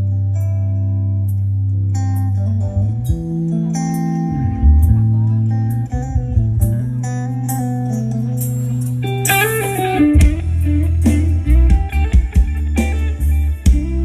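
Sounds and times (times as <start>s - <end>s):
electric guitar: 0.0s - 14.0s
held bass notes: 0.0s - 14.0s
live rock band music: 0.0s - 14.0s.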